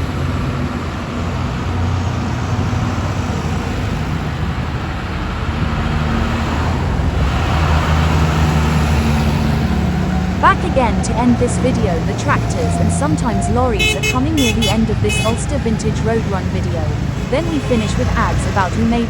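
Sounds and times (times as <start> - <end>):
road noise: 0.0 - 19.0
tractor engines running: 0.0 - 19.0.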